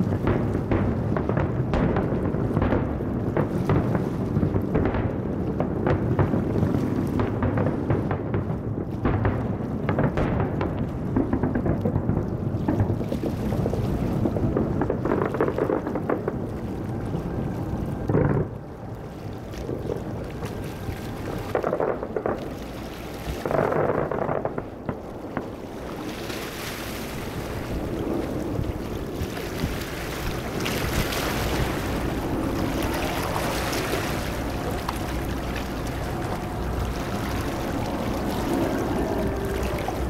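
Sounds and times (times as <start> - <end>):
distant fireworks rumble and hiss: 0.0 - 40.0.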